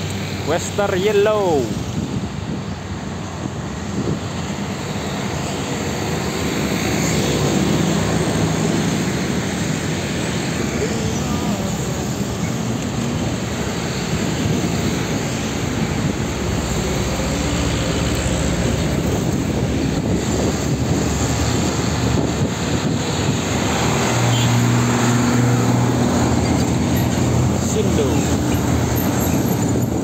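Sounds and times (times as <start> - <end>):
trucks and motorcycles passing: 0.0 - 30.0.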